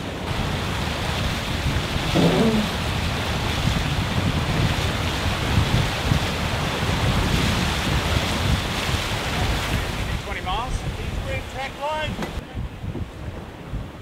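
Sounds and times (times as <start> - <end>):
water rushing along hull: 0.0 - 14.0
wind buffeting microphone: 0.0 - 14.0.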